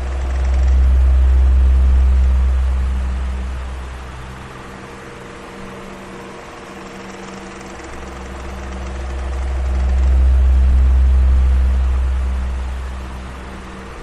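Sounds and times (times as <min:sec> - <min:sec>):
electric fan whirring: 0:00.0 - 0:14.0.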